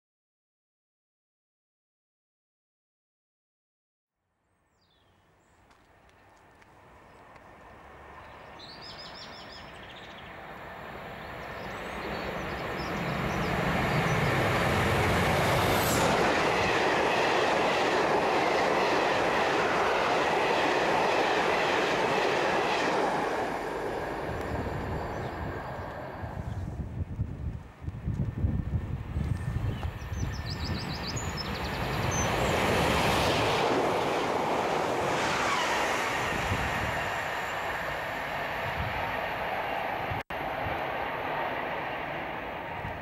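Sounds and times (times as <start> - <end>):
train coaches running past: 5.6 - 43.0
diesel locomotive engine: 5.7 - 43.0.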